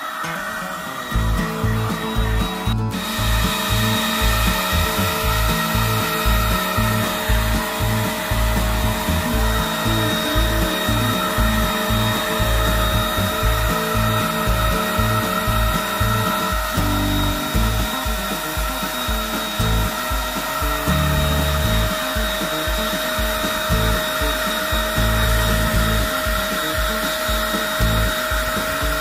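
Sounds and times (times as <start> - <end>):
electric paint spray gun whining: 0.0 - 29.0.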